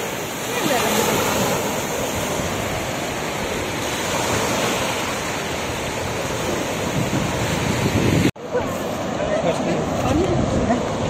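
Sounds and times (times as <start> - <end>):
waves washing up sandy beach: 0.0 - 11.0.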